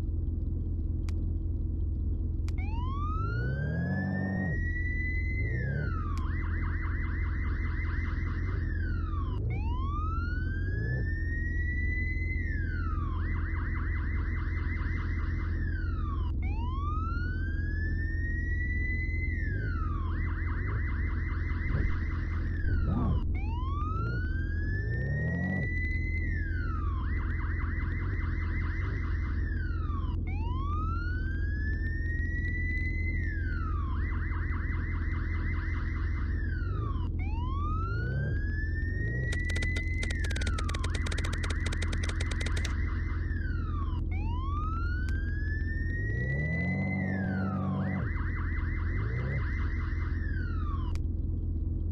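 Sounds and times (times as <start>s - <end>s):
steady low hum: 0.0s - 51.9s
electronic siren wailing and warbling: 2.5s - 51.9s.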